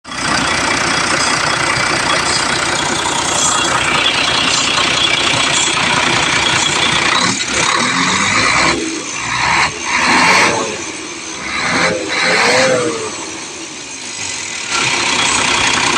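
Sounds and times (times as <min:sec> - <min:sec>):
truck diesel engine clattering: 0:00.0 - 0:15.9.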